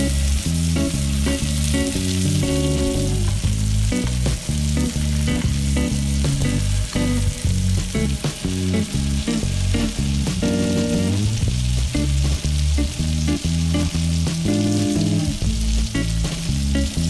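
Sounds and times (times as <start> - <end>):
background music: 0.0 - 17.0
butter sizzling in a frying pan: 0.0 - 17.0.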